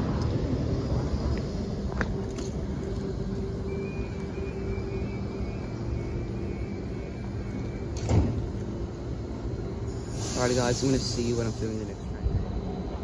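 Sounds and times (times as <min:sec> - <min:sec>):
electric train humming: 0:00.0 - 0:13.0
faint high whine: 0:00.0 - 0:13.0.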